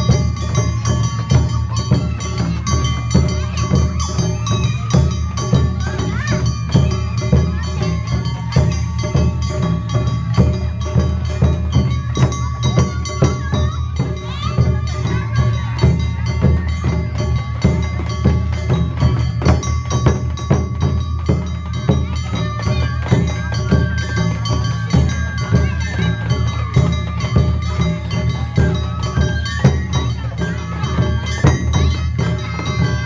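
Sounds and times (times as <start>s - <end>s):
drums: 0.0s - 33.0s
held high melody note: 0.0s - 33.0s
metallic hand percussion: 0.0s - 33.0s.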